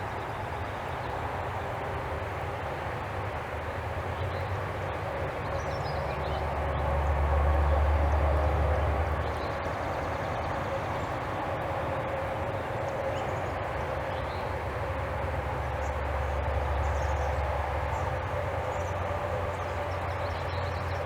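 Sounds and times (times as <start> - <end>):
low rumble of distant traffic: 0.0 - 21.0
outdoor background hum: 0.0 - 21.0.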